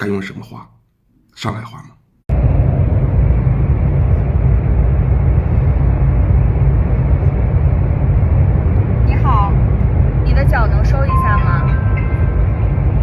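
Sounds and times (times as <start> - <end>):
train cabin rumbling: 2.3 - 13.0.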